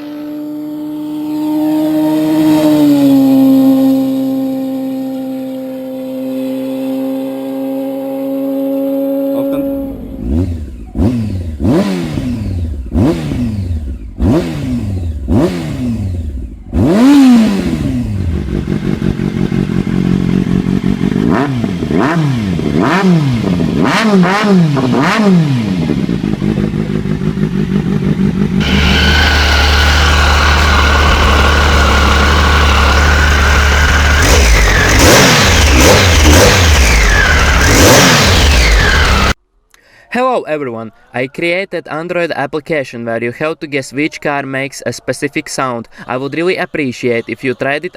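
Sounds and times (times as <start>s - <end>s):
motorcycle engines revving: 0.0s - 39.4s.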